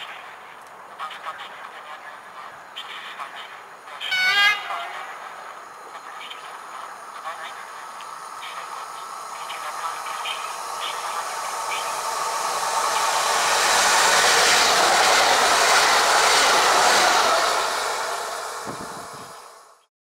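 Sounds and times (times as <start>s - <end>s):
train wheels on rails rushing past: 3.6s - 19.9s.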